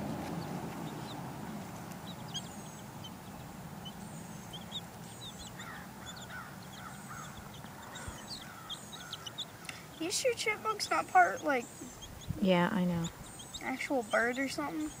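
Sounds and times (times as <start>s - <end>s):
chicks peeping: 0.0s - 15.0s
low background noise: 0.0s - 15.0s.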